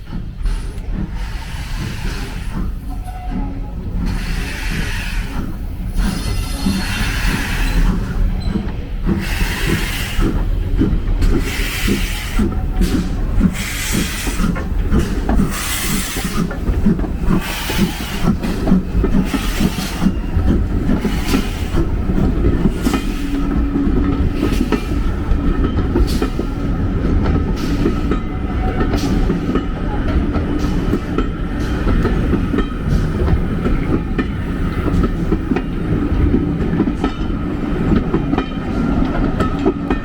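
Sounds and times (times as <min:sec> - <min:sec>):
train rumbling and clattering: 0:00.0 - 0:40.0.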